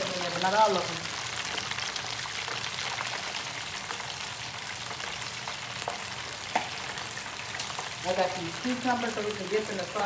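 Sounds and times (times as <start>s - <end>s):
shrimp deep-frying in oil: 0.0s - 10.0s.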